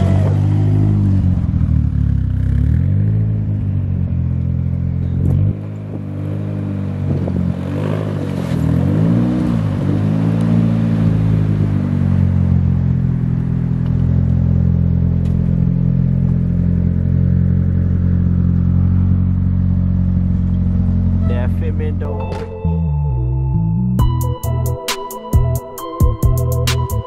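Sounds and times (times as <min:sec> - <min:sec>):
car engine revving and idling: 0:00.0 - 0:22.3.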